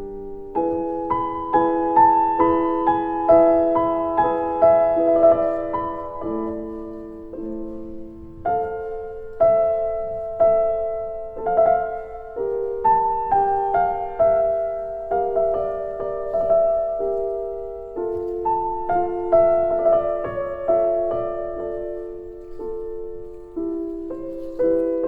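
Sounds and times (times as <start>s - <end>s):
soft slow piano music: 0.0s - 25.0s.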